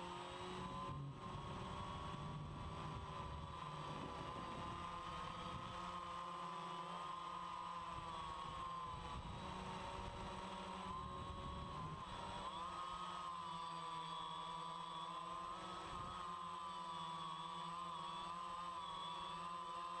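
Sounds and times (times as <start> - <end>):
drone propellers whirring: 0.3 - 20.0.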